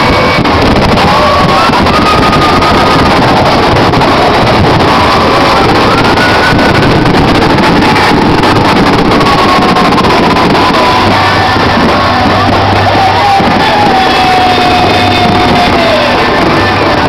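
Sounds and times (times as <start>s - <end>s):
dense noisy background: 0.0s - 17.0s
loud distorted music with vocals: 0.0s - 17.0s.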